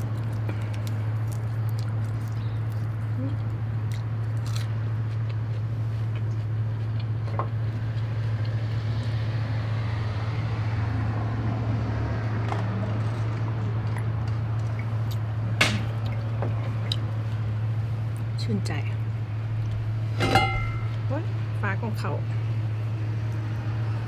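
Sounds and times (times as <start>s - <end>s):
steady low hum: 0.0s - 12.0s, 12.9s - 24.0s.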